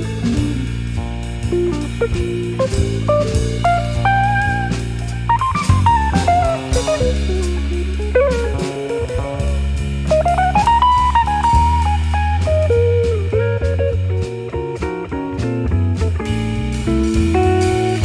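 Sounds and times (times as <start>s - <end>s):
bass guitar: 0.0s - 18.0s
drum kit: 0.0s - 18.0s
sliding guitar melody: 0.0s - 18.0s.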